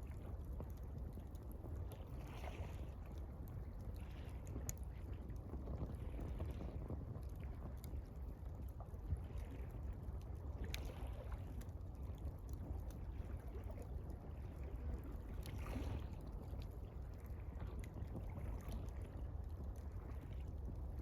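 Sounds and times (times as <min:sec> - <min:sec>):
water lapping at shore: 0:00.0 - 0:21.0.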